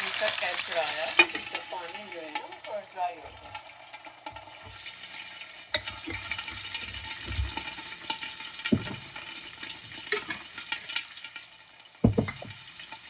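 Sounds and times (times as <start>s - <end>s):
paste sizzling in hot oil: 0.0s - 13.0s
spoon scraping a pan: 0.1s - 11.5s.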